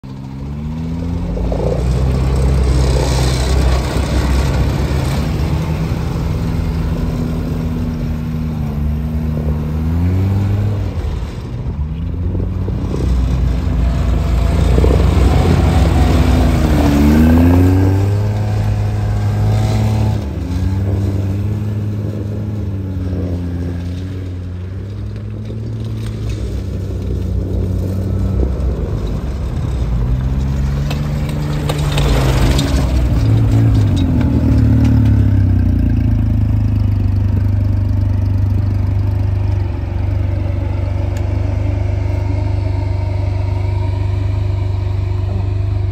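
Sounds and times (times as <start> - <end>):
vehicle engine revving: 0.0 - 45.9.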